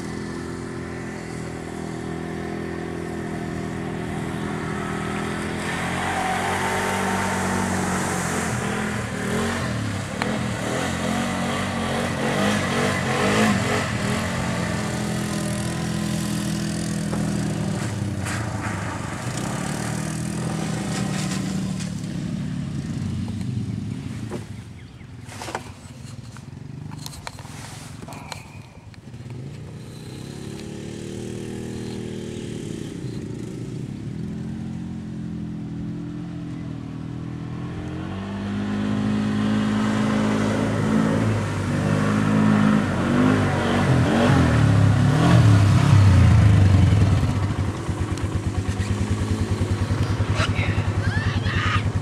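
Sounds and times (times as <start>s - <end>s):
atv engine running under load: 0.0s - 52.0s.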